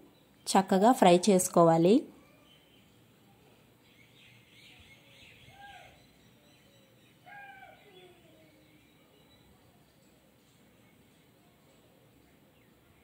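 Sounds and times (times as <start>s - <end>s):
faint bird chirps: 2.1s - 13.0s.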